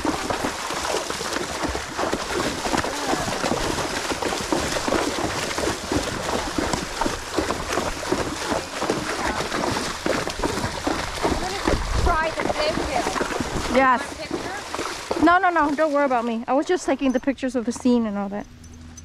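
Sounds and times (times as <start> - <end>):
horses wading through water: 0.0 - 18.3.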